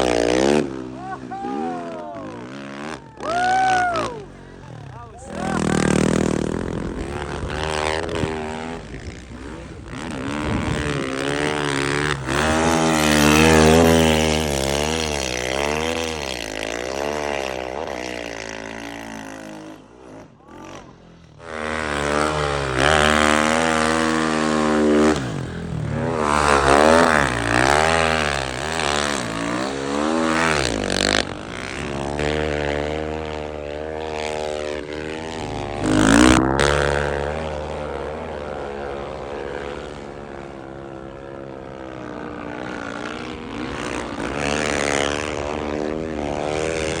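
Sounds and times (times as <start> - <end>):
car engine revving: 0.0 - 41.2.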